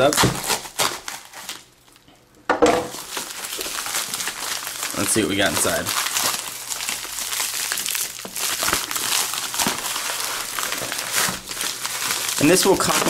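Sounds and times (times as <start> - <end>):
plastic envelope crinkling: 0.0 - 2.1, 2.9 - 13.0.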